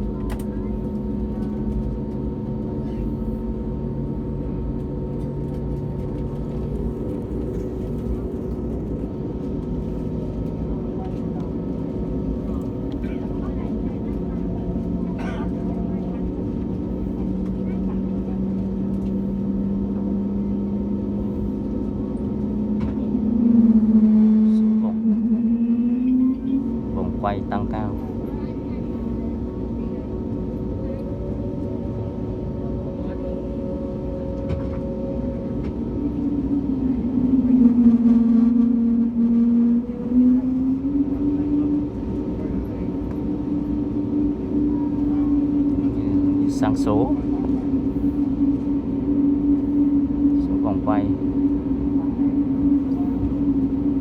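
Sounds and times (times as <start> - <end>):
jet engines humming from cabin: 0.0 - 54.0.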